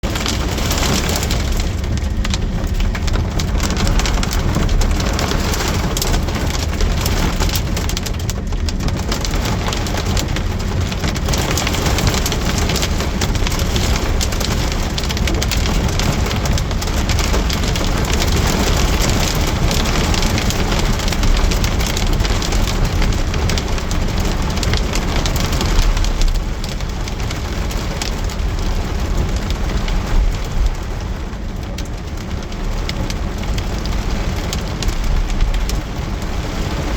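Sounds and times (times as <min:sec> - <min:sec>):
heavy rain pouring: 0:00.0 - 0:36.9
low rumble: 0:00.0 - 0:36.9.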